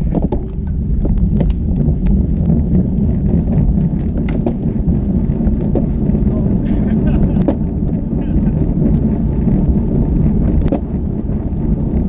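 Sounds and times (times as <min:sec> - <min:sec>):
bike clicks and rattles: 0:00.0 - 0:12.0
tyre noise: 0:00.0 - 0:12.0
wind buffeting microphone: 0:00.0 - 0:12.0.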